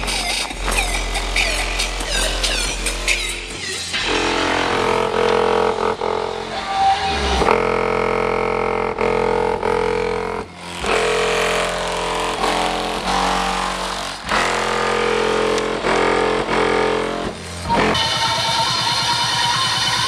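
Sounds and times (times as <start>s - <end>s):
loud bass-heavy music: 0.0s - 20.0s.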